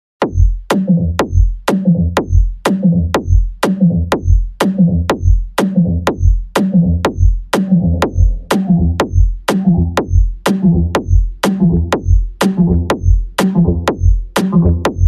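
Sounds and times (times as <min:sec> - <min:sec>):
drum machine kick: 0:00.2 - 0:15.0
electro house music: 0:00.2 - 0:15.0
synth bass line: 0:00.2 - 0:15.0.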